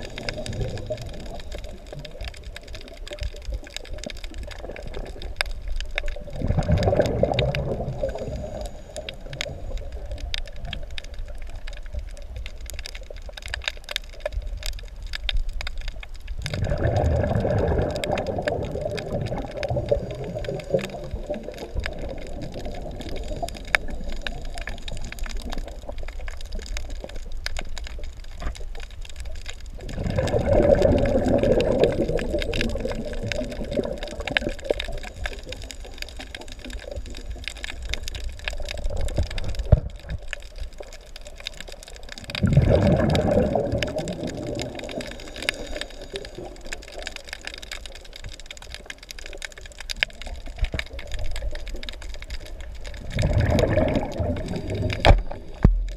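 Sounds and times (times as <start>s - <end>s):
diver's bubbles gurgling: 0.0s - 55.9s
underwater crackle of tiny clicks: 0.0s - 55.9s.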